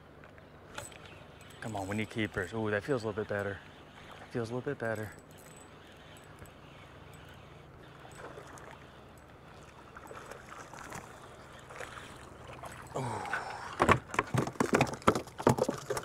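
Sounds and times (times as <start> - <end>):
fish splashing and thrashing: 0.7 - 16.0.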